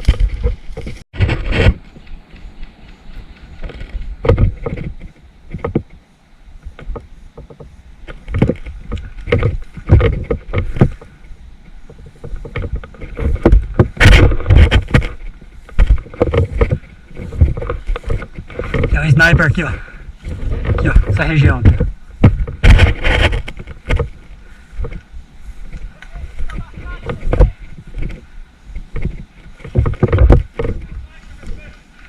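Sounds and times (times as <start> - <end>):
footsteps through undergrowth: 0.0 - 5.8, 6.6 - 32.0.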